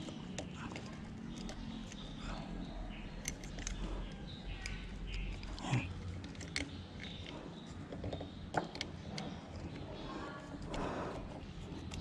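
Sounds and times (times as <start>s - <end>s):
small clicks and scrapes: 0.0s - 2.2s, 2.9s - 12.0s.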